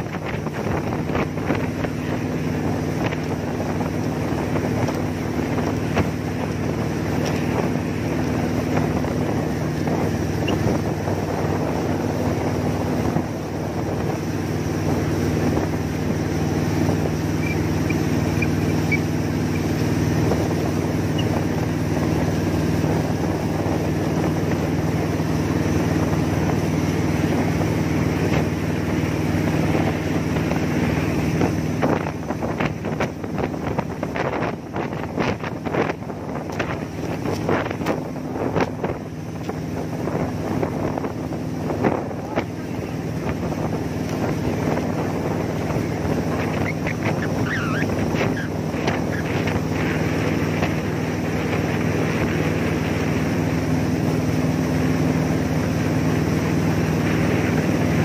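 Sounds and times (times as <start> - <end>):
boat engine drone: 0.0 - 58.0
wind buffeting microphone: 0.0 - 58.0.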